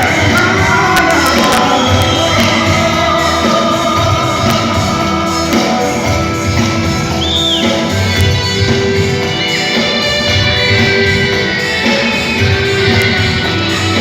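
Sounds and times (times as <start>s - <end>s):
live band playing pop music: 0.0s - 14.0s.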